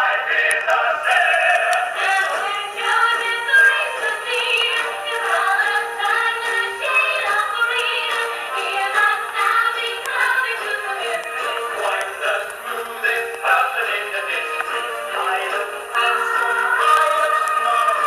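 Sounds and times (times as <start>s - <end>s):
musical theatre song on small speakers: 0.0s - 18.0s.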